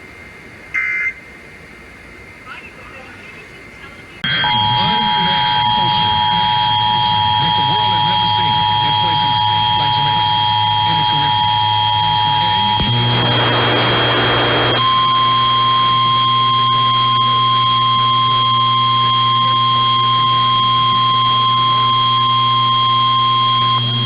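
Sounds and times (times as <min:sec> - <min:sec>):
faint high whine: 0:00.0 - 0:24.0
low hum: 0:00.0 - 0:24.0
steady warning alarm tone: 0:00.1 - 0:01.3, 0:02.6 - 0:24.0
radio static: 0:00.8 - 0:01.2, 0:02.4 - 0:24.0.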